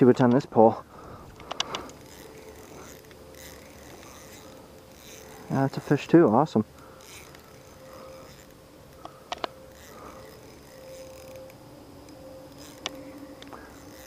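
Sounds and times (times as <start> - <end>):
reel clicks: 0.0 - 14.0
fishing reel whirring: 0.1 - 14.0.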